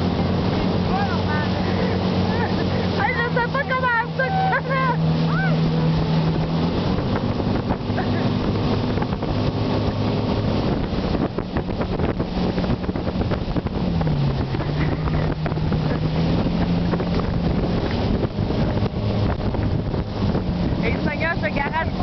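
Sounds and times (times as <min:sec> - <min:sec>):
motorboat engine running: 0:00.0 - 0:22.0
water churning: 0:00.0 - 0:22.0
wind buffeting microphone: 0:00.0 - 0:22.0.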